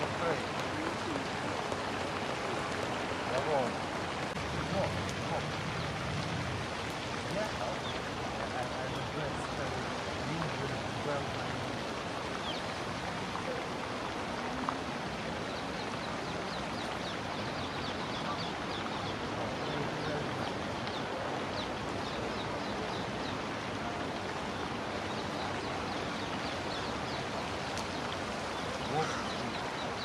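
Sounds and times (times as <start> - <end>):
outdoor background hiss: 0.0 - 30.0
small birds chirping: 0.0 - 30.0.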